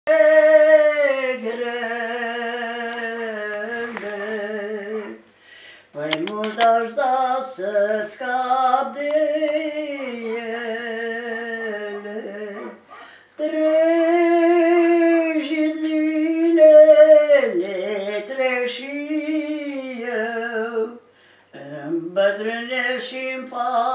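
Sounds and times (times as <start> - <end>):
woman singing unaccompanied: 0.1 - 5.3, 5.9 - 12.8, 13.4 - 23.9.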